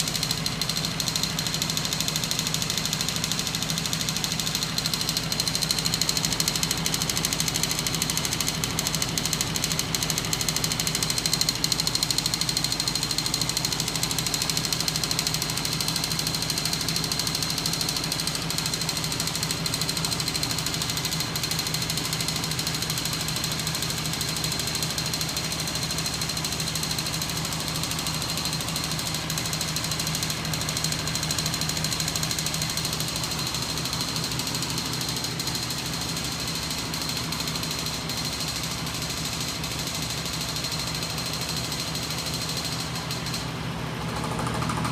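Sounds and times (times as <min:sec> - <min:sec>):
fast mechanical clatter: 0:00.0 - 0:44.9.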